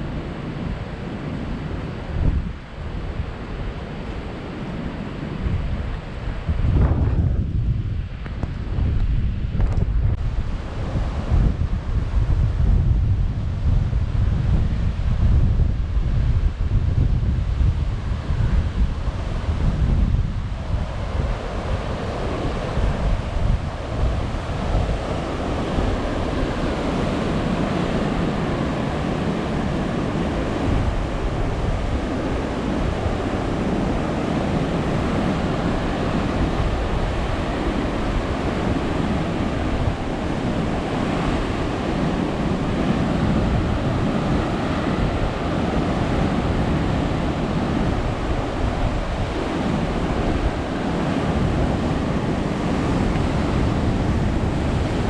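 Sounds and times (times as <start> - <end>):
waves breaking against cliffs: 0.0 - 55.0
wind buffeting microphone: 0.0 - 55.0.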